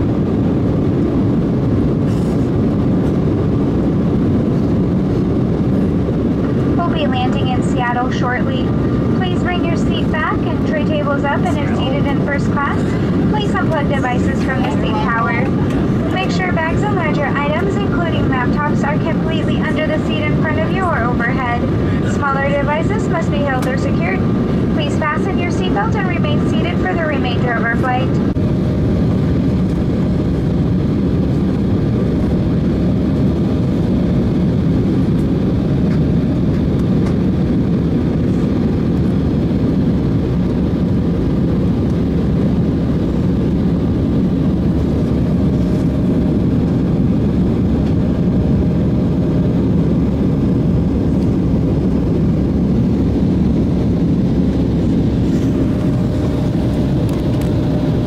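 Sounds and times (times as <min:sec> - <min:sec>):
drone of jet engines: 0:00.0 - 0:58.0
faint steady hums: 0:00.0 - 0:58.0
rush of air in aircraft cabin: 0:00.0 - 0:58.0.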